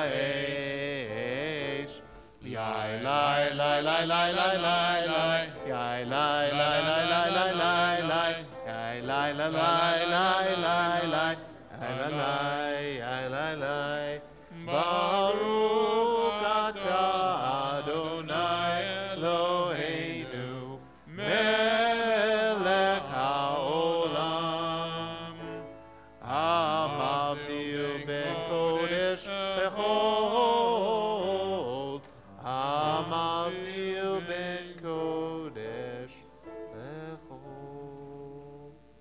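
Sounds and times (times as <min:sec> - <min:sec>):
congregation singing: 0:00.0 - 0:39.0.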